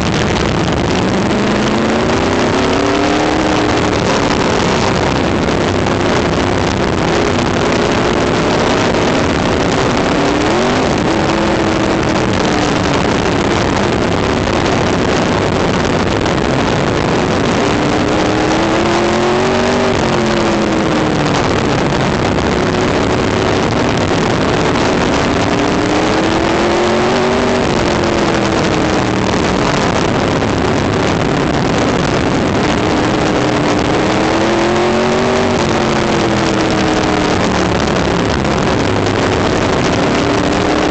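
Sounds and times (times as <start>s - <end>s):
race car engine at speed: 0.0s - 40.9s
steady rushing noise: 0.0s - 40.9s.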